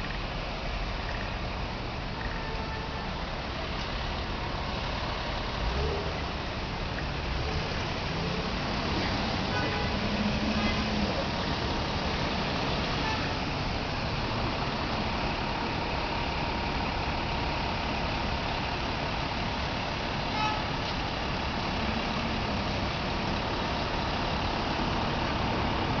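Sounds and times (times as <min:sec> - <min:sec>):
city traffic noise: 0:00.0 - 0:26.0
diesel engine running: 0:00.0 - 0:26.0.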